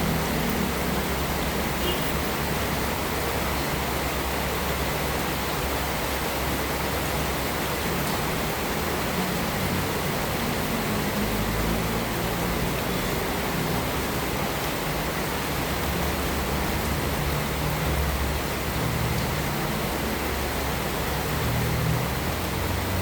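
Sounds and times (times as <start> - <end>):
heavy rain on a roof: 0.0 - 23.0.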